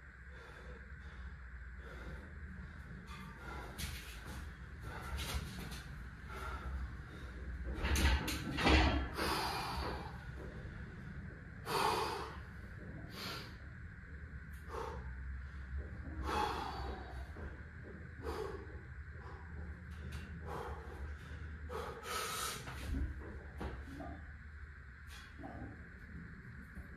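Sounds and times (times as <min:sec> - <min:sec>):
man breathing heavily: 0:00.0 - 0:08.0, 0:08.6 - 0:26.9.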